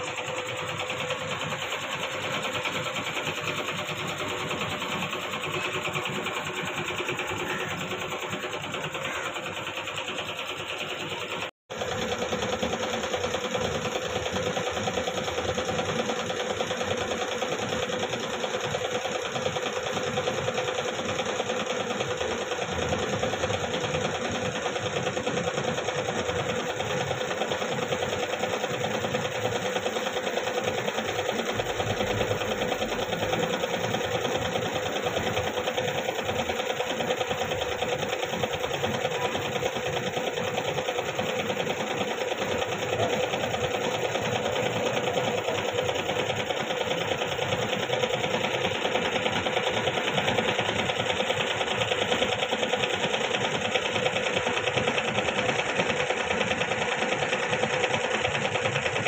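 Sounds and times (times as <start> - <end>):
machine clattering: 0.0 - 59.0.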